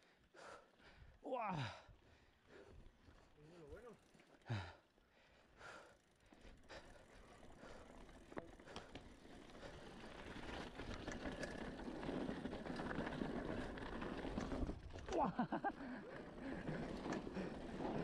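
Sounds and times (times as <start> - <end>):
rider breathing: 0.0 - 12.3, 15.7 - 18.0
bike tyres rolling on dirt: 0.4 - 18.0
bike clicks and rattles: 2.4 - 18.0.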